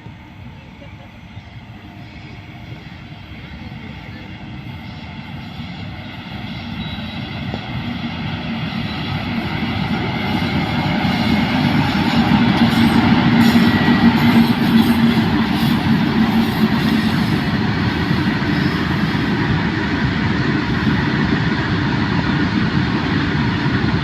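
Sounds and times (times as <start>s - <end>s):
electric train running hum: 0.0s - 24.0s.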